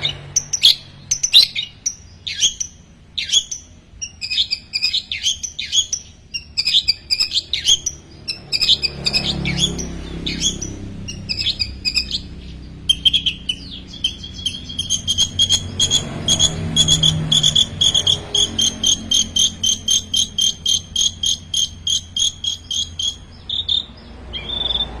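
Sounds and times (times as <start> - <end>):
bird singing mimicry song: 0.0 - 25.0.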